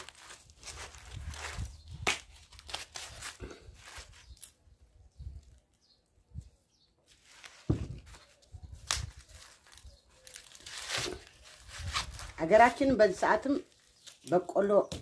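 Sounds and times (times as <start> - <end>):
corn husks rustling and ripping: 0.0 - 5.8, 7.1 - 15.0.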